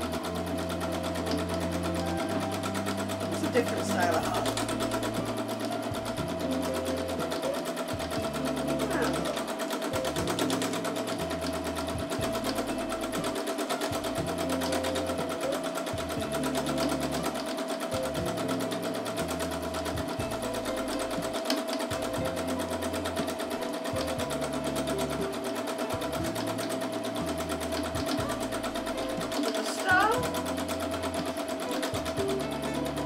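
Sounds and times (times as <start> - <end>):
sewing machine stitching: 0.0 - 33.0.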